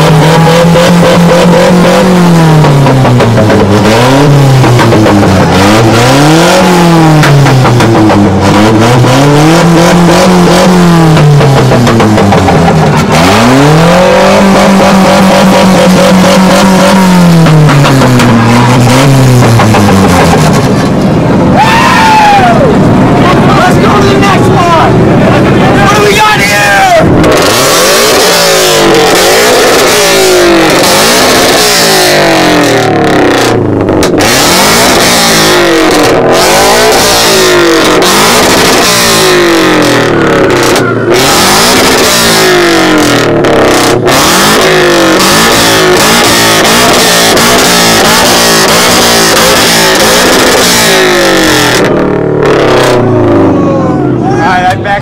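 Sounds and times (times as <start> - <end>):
car engine revving loudly: 0.0 - 55.0.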